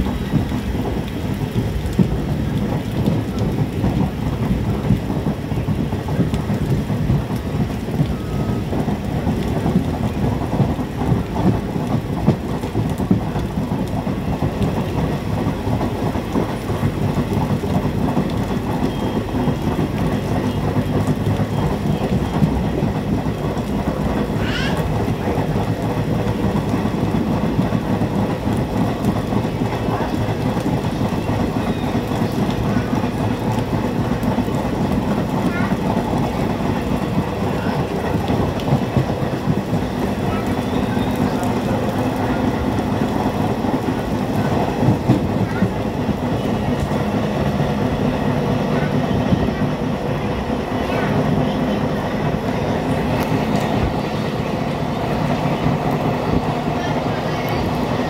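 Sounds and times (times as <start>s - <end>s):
rain hissing: 0.0s - 58.0s
train wheels rumbling on track: 0.0s - 58.0s.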